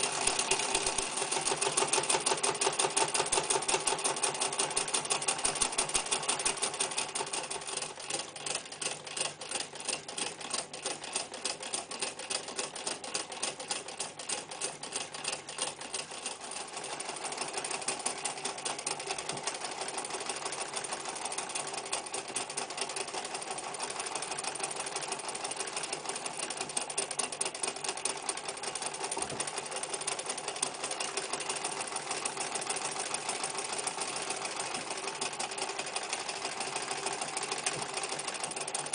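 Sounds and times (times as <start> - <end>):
electric sewing machine stitching: 0.0 - 38.9.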